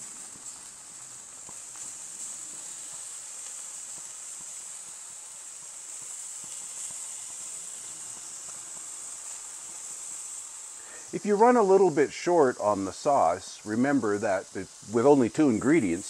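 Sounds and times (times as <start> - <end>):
meat sizzling on a grill: 0.0 - 16.0
brush ticking: 0.4 - 16.0.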